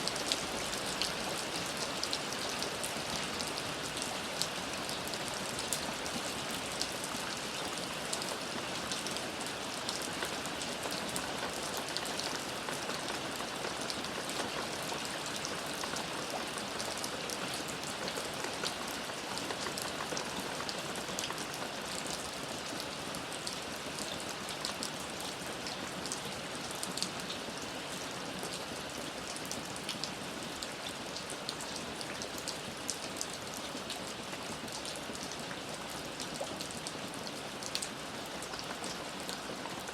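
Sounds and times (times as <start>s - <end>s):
rain falling: 0.0s - 39.9s
raindrops pattering on a surface: 0.0s - 39.9s.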